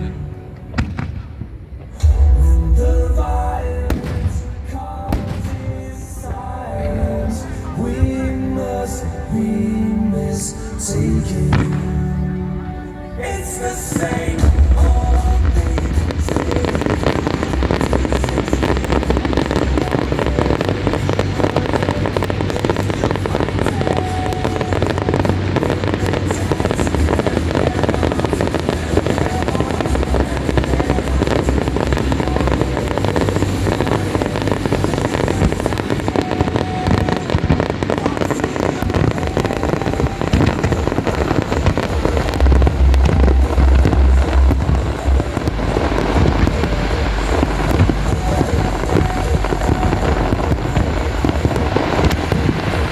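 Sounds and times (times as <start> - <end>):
fireworks bursting and crackling: 0.0 - 52.9
low fireworks booms: 0.0 - 52.9
music from loudspeakers: 1.9 - 52.9.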